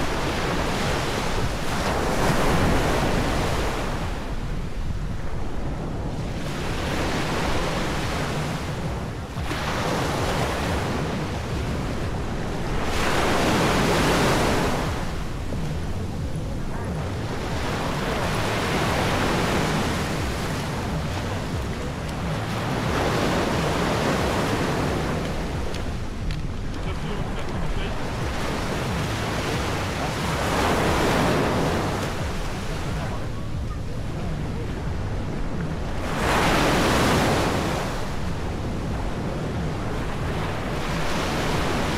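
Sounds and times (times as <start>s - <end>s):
waves breaking on beach: 0.0s - 41.9s
wind rumble on microphone: 0.0s - 41.9s.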